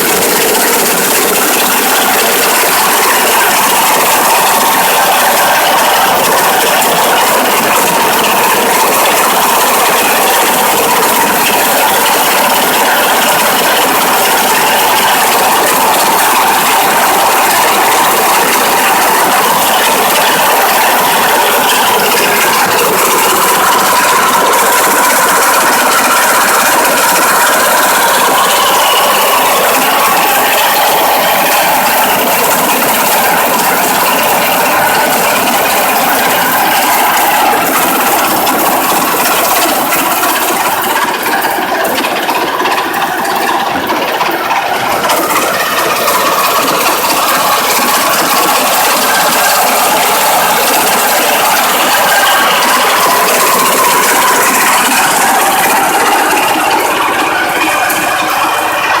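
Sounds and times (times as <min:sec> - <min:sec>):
dense mechanical clatter: 0:00.0 - 0:59.0
petrol engine running: 0:00.0 - 0:59.0.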